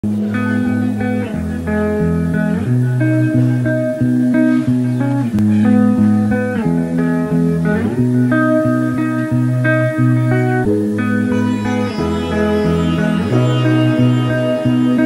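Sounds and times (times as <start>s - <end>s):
instrumental guitar music: 0.0s - 15.0s.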